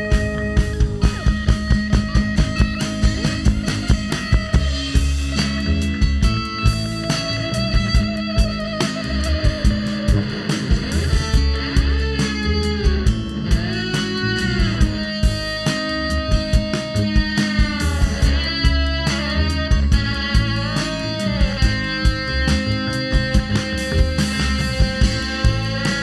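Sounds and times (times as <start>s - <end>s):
electric guitar bending notes: 0.0s - 26.0s
rock band playing: 0.0s - 26.0s.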